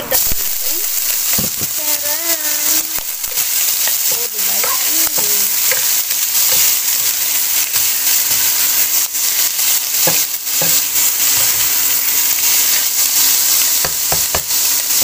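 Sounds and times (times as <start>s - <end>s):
food sizzling in hot oil: 0.0s - 15.0s
spatula scraping a pan: 0.0s - 15.0s.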